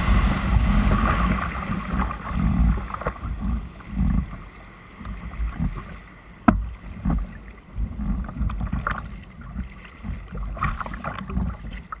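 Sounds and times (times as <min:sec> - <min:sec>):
wind buffeting microphone: 0:00.0 - 0:11.8
water splashing around kayak: 0:00.0 - 0:12.0.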